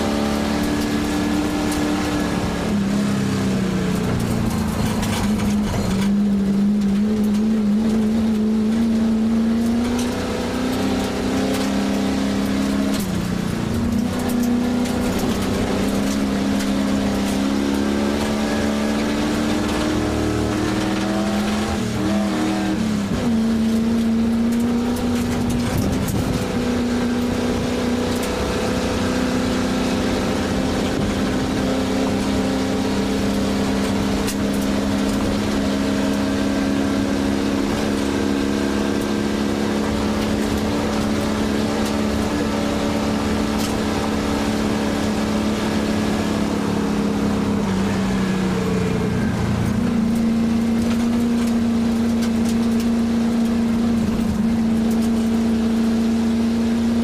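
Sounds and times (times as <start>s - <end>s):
car engine pulling hard: 0.0s - 57.0s.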